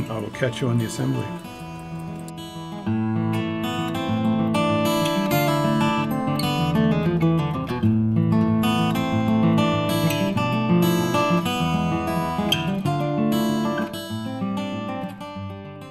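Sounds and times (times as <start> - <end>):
strummed acoustic guitar chords: 0.0 - 15.9.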